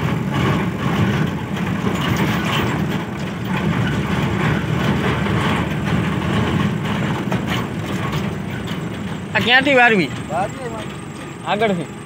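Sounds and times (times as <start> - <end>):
cab rattling: 0.0 - 12.0
truck diesel engine running: 0.0 - 12.0.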